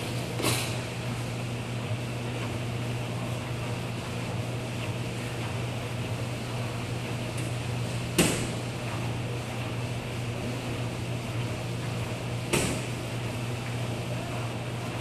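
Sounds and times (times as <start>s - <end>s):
washers and dryers humming: 0.0s - 15.0s.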